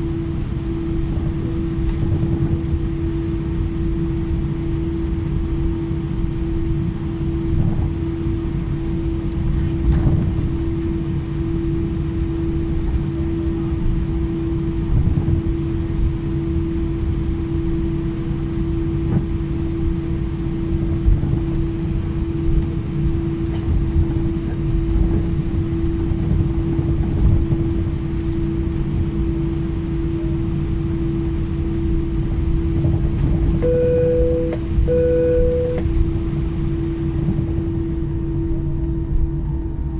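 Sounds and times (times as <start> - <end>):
jet engine hum: 0.0 - 39.9
low rumble: 0.0 - 39.9.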